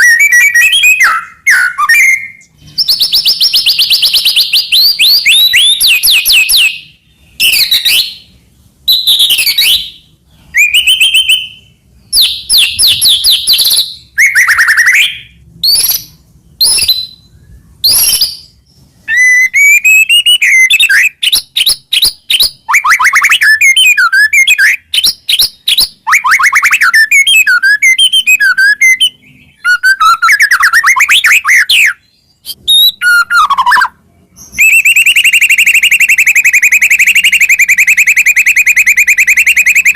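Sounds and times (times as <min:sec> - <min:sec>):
songbird singing whistled phrases: 0:00.0 - 0:39.9.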